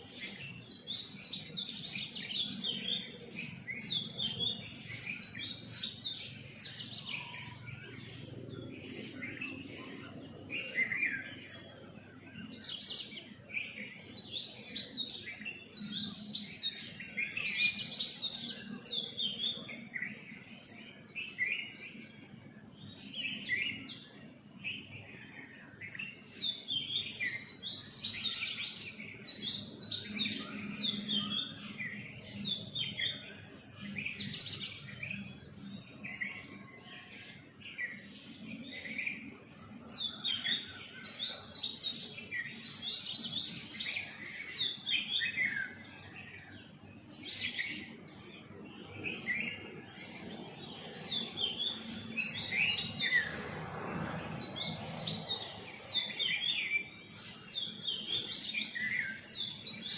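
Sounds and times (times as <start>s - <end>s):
small songbirds chirping and trilling: 0.0s - 59.9s.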